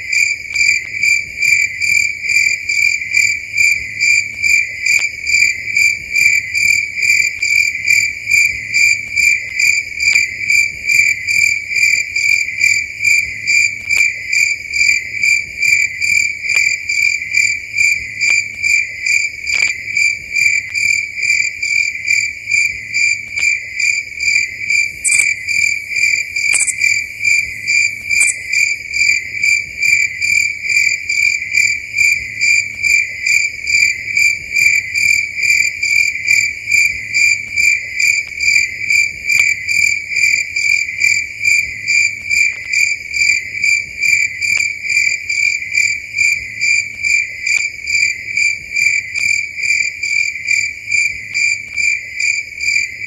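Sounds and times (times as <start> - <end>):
cricket chirping: 0.0 - 53.0.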